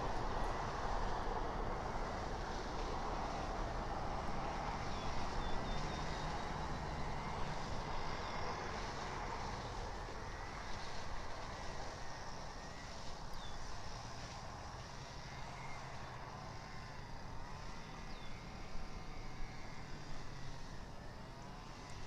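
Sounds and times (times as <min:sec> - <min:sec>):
distant vehicle traffic: 0:00.0 - 0:22.0.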